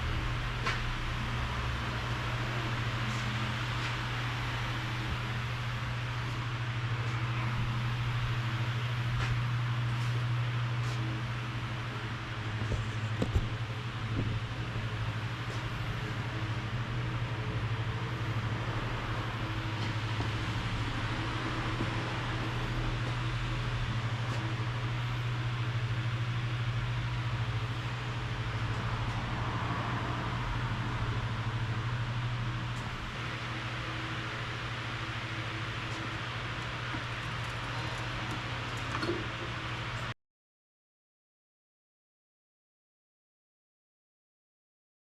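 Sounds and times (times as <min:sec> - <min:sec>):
tyre road noise: 0:00.0 - 0:25.3, 0:27.2 - 0:40.1.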